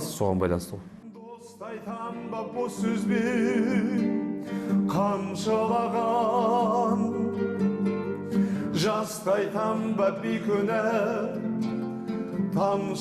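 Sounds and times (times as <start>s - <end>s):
acoustic guitar: 0.0s - 13.0s
person singing with vibrato: 1.0s - 13.0s.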